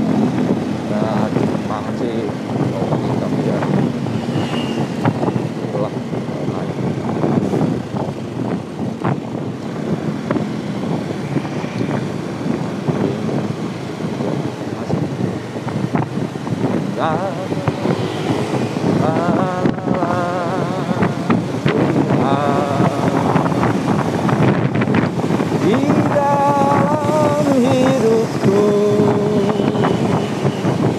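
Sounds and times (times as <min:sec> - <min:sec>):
motorcycle road noise: 0:00.0 - 0:30.9
wind rushing over microphone: 0:00.0 - 0:30.9.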